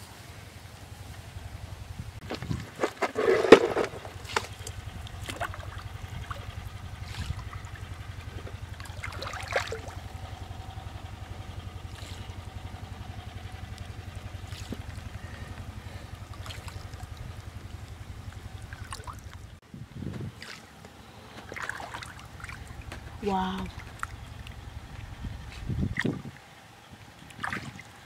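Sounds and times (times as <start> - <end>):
small engine chugging: 0.0 - 28.0
water and mud splashing: 0.0 - 28.0.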